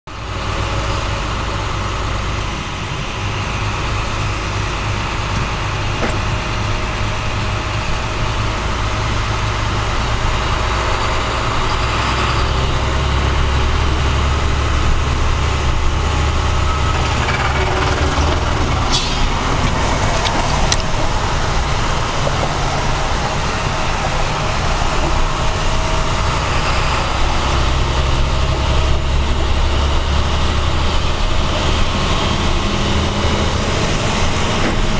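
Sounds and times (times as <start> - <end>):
truck engine drone: 0.1 - 34.9
tyre and road noise: 0.1 - 34.9.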